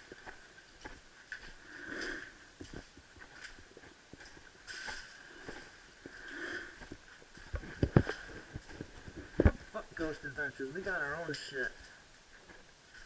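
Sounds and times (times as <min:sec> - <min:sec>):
footsteps on debris: 0:00.0 - 0:13.0.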